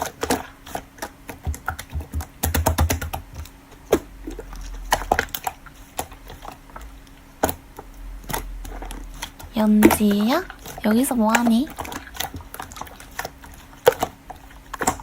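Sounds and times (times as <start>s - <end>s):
slime squelching: 0.0s - 15.0s.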